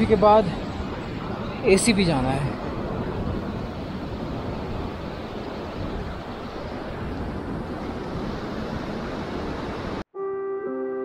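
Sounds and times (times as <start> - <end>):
wind buffeting microphone: 0.0 - 10.0
rushing wind: 0.0 - 10.1.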